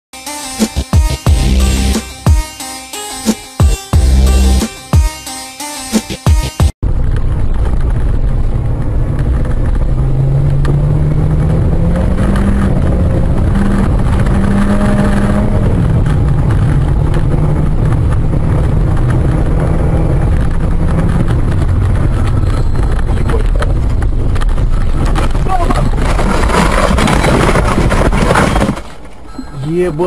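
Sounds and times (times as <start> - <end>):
road rumble: 4.0 - 4.8, 6.8 - 30.0.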